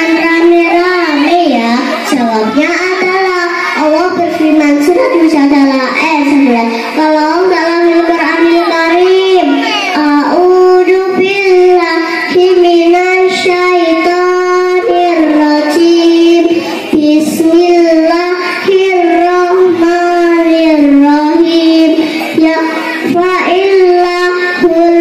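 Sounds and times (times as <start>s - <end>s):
girl singing into a microphone: 0.0s - 25.0s.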